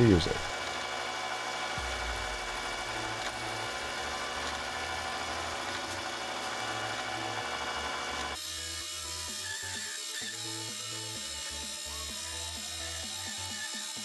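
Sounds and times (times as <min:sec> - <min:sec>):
lathe tool cutting metal: 0:00.0 - 0:14.0
metal lathe motor whine: 0:00.0 - 0:14.0.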